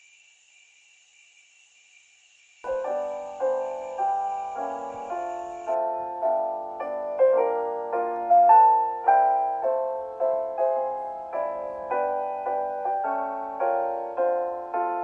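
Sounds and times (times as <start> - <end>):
slow gentle solo piano: 2.7 - 15.0.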